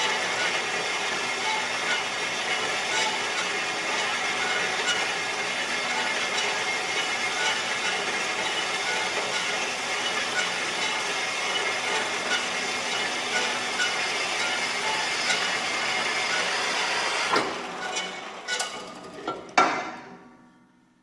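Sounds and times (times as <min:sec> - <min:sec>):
steady mechanical noise: 0:00.0 - 0:18.8.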